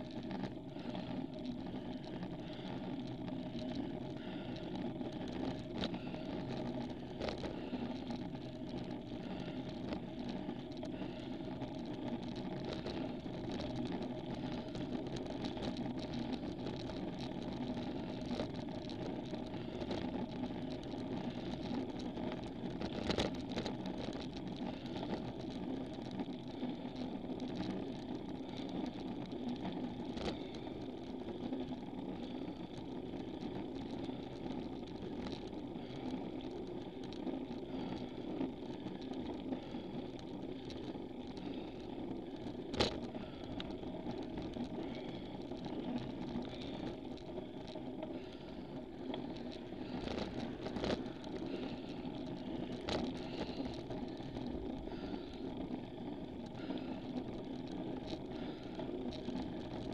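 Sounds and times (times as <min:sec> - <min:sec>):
bicycle tyres and drivetrain rumble: 0:00.0 - 0:59.9
small clicks and rattles: 0:00.0 - 0:59.9.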